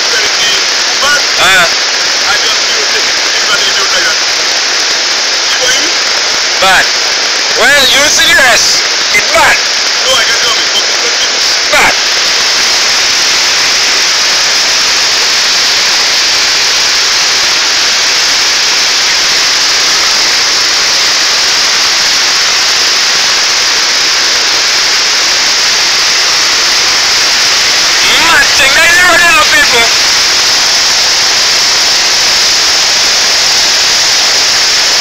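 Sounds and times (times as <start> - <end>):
flooded river rushing: 0.0 - 35.0.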